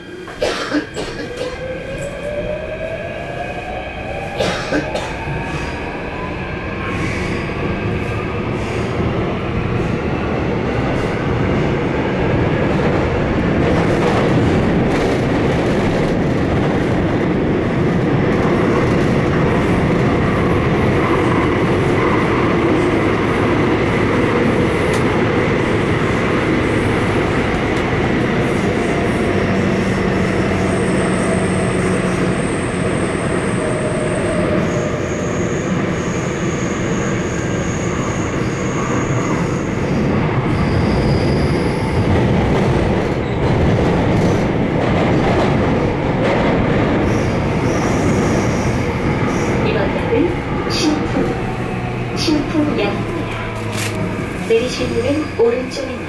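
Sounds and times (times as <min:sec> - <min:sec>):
rumble of wheels on rail: 0:00.0 - 0:56.0.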